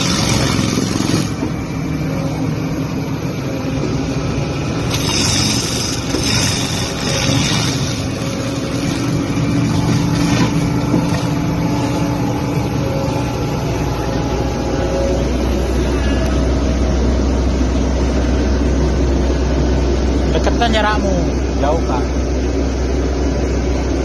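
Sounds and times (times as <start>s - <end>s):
deeper hum: 0.0s - 24.0s
mulcher machine drone: 0.0s - 24.0s.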